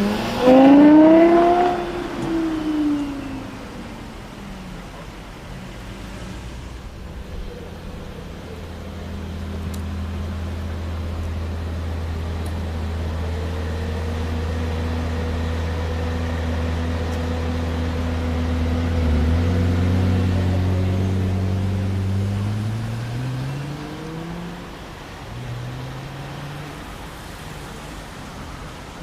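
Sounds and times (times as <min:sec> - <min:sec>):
car engine running at low revs: 0:00.0 - 0:29.0.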